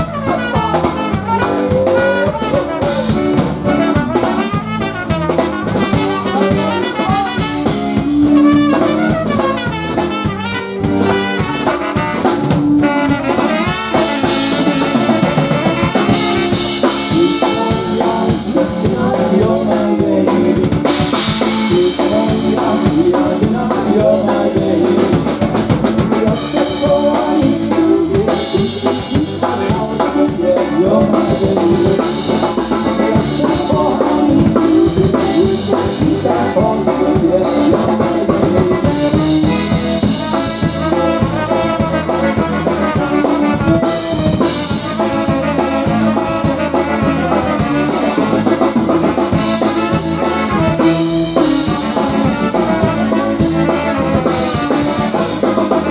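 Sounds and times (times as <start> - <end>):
drum kit beat: 0.0 - 55.9
horns playing polka: 0.0 - 55.9
trumpet: 0.0 - 55.9.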